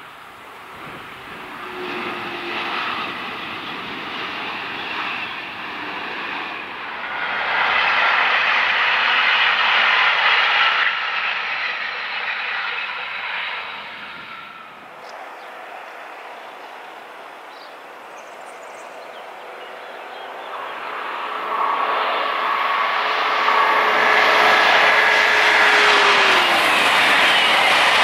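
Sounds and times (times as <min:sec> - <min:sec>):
high-speed train passing: 0:00.0 - 0:28.0.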